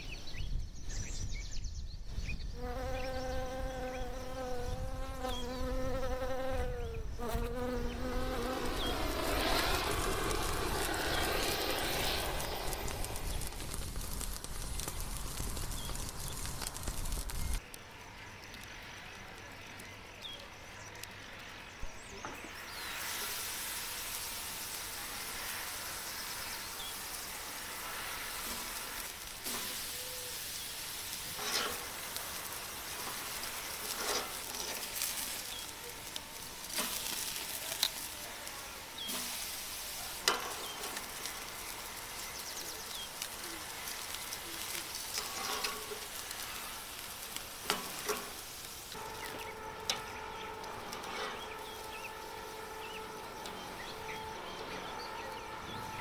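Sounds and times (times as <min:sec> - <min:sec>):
meat sizzling on a grill: 0:08.0 - 0:17.7, 0:18.4 - 0:56.0.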